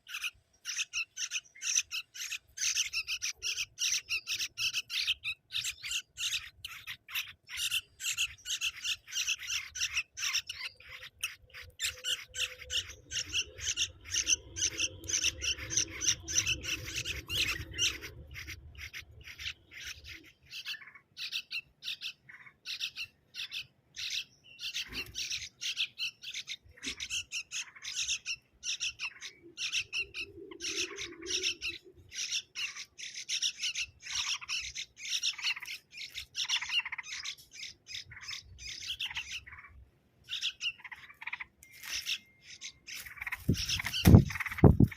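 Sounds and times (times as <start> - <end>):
baby birds squawking: 0.0 - 44.9.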